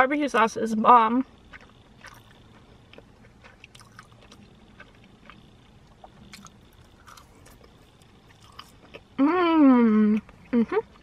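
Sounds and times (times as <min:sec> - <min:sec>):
chewing and mouth sounds: 0:01.2 - 0:09.3, 0:09.9 - 0:11.0.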